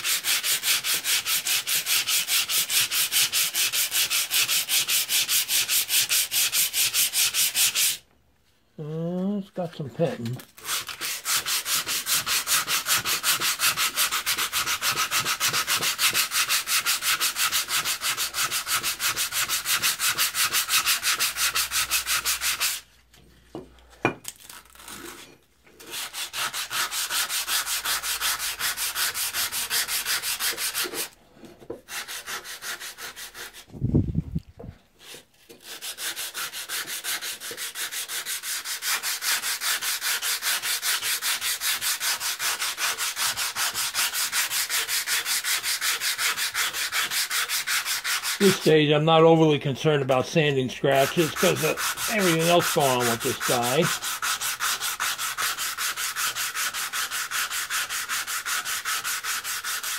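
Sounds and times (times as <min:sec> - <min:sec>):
hand sanding rusty metal: 0:00.0 - 0:08.0, 0:10.0 - 0:22.9, 0:25.8 - 0:31.2, 0:31.9 - 0:33.7, 0:35.0 - 0:48.8, 0:50.0 - 0:59.9.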